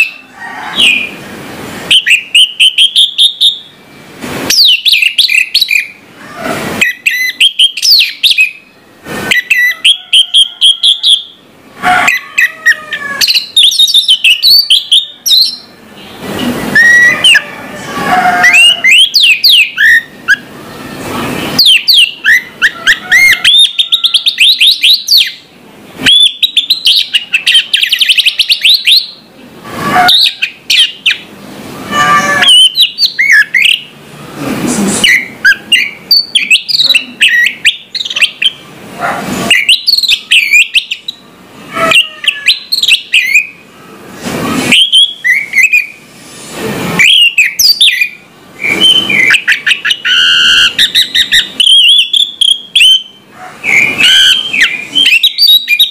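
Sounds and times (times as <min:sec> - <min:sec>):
bird trill: 0:00.0 - 0:01.2, 0:01.9 - 0:03.8, 0:04.5 - 0:06.0, 0:06.8 - 0:17.5, 0:18.2 - 0:20.5, 0:21.5 - 0:25.5, 0:26.1 - 0:29.3, 0:29.9 - 0:31.3, 0:31.9 - 0:33.9, 0:35.0 - 0:38.6, 0:39.5 - 0:43.6, 0:44.7 - 0:46.0, 0:47.0 - 0:55.9.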